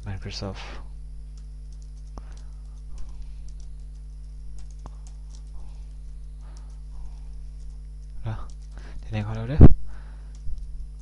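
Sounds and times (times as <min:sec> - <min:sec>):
steady low hum: 0:00.0 - 0:11.0
computer keyboard typing: 0:01.3 - 0:09.6, 0:10.2 - 0:11.0.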